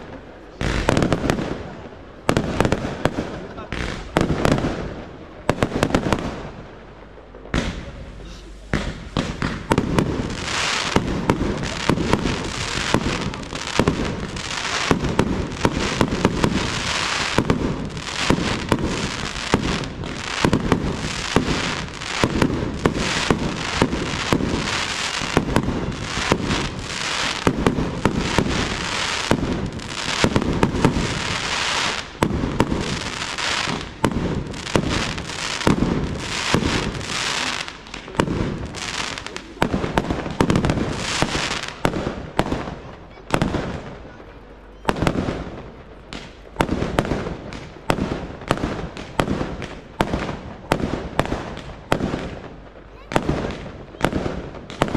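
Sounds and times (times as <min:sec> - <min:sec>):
fireworks launching and bursting: 0:00.0 - 0:54.9.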